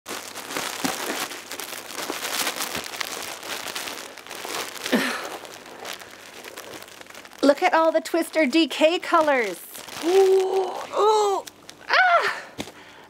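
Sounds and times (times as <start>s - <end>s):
plastic wrapping crinkling: 0.1s - 13.0s.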